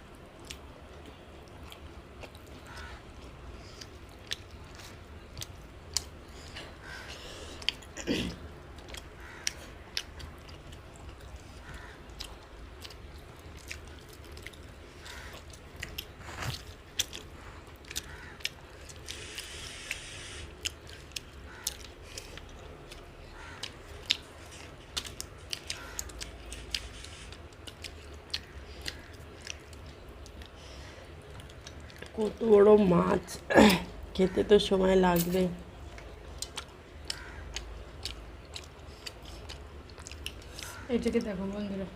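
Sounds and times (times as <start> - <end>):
people chewing with mouth smacks: 0.3 - 32.6, 35.2 - 41.4.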